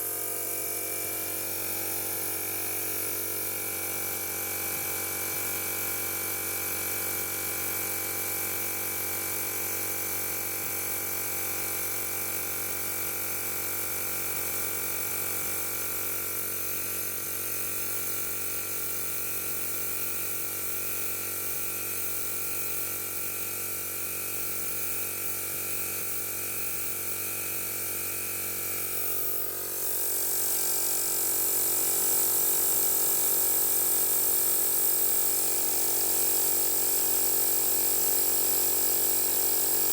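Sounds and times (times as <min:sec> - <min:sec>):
air compressor running with whine: 0:00.0 - 0:39.9.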